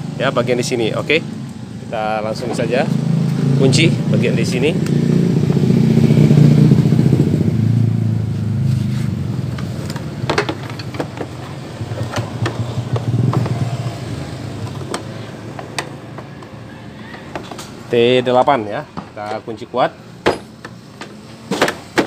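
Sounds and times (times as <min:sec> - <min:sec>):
motorcycle engine running: 0:00.0 - 0:18.5.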